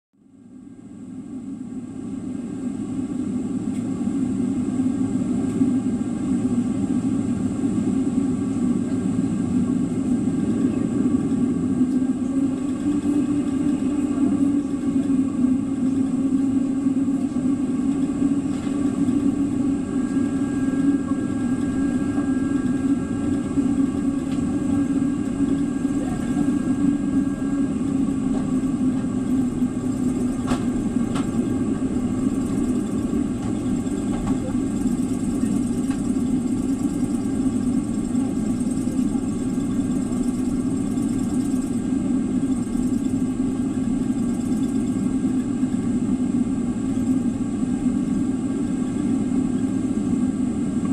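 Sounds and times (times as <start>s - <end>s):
jet engine drone: 0.2s - 50.9s
faint high whine: 5.0s - 50.9s.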